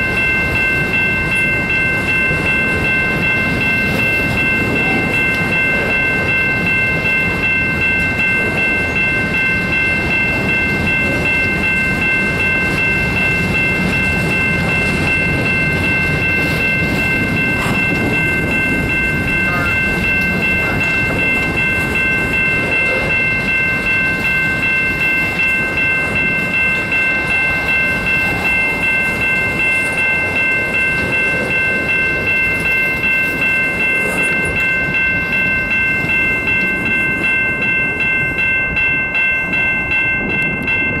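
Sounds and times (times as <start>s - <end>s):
freight train wheels rumbling: 0.0s - 41.0s
railway crossing bell ringing: 0.0s - 41.0s.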